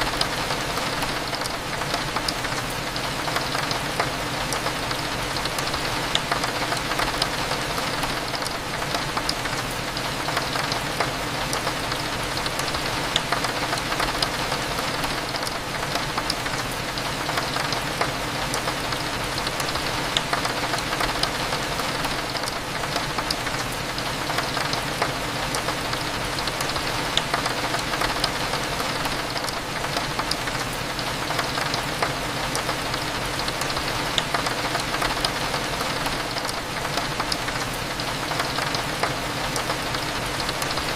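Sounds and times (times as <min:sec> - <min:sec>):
rain drops tapping: 0:00.0 - 0:40.9.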